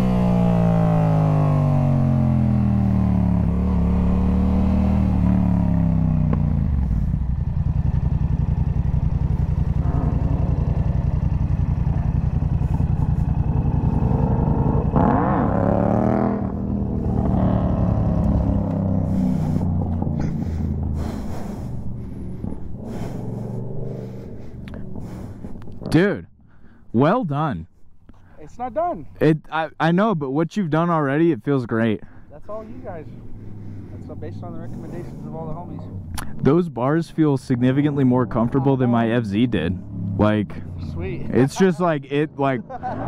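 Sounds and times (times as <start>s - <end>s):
motorcycle engine: 0.0s - 26.8s, 32.0s - 43.0s.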